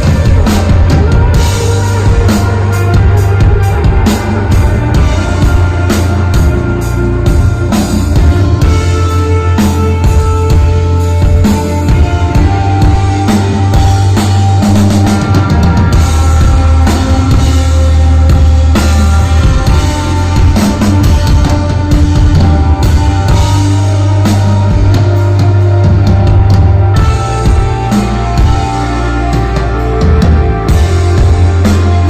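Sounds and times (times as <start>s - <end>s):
drum kit beat: 0.0s - 32.0s
rock band playing live: 0.0s - 32.0s.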